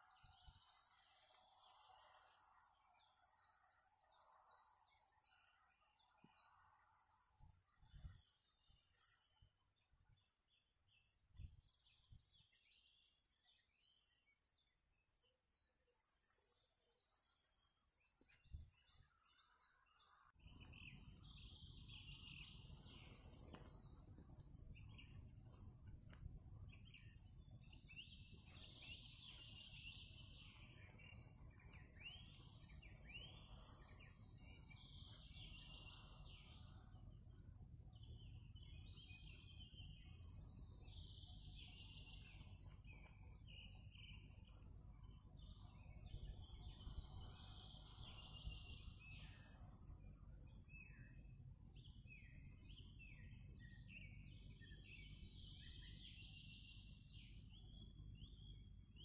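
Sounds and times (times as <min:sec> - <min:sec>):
faint songbirds singing: 0:00.0 - 0:59.0.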